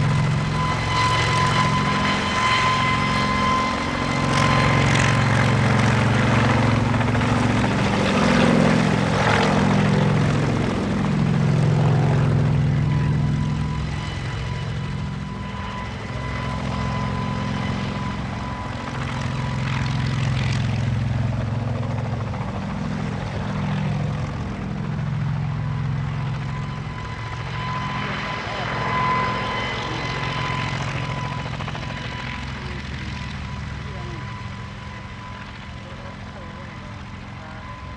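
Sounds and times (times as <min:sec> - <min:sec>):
helicopter engine and rotors: 0:00.0 - 0:37.9.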